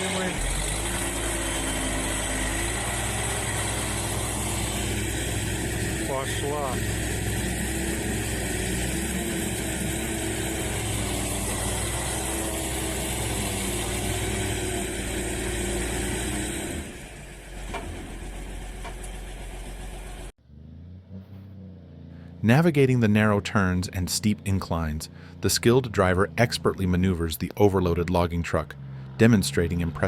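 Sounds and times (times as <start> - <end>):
heavy diesel engines under load: 0.0 - 30.0.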